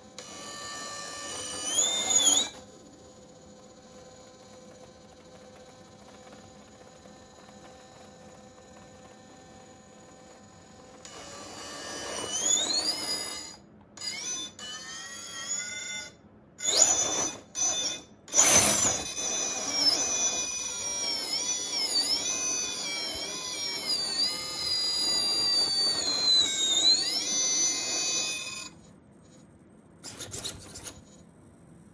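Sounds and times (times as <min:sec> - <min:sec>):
electric motor and gears whining: 0:00.0 - 0:28.9.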